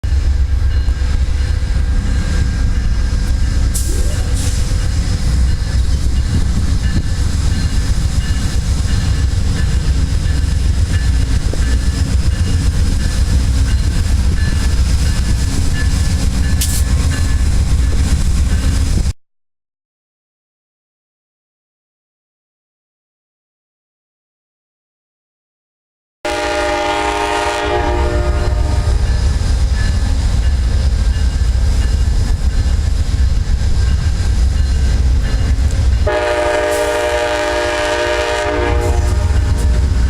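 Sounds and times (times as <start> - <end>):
train wheels rumbling on rails: 0.0 - 19.2, 26.3 - 40.0.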